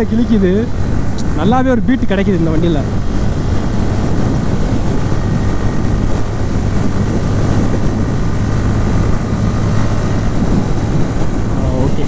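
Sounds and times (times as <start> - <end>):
motorcycle engine droning: 0.0 - 12.0
wind rush on microphone: 0.0 - 12.0.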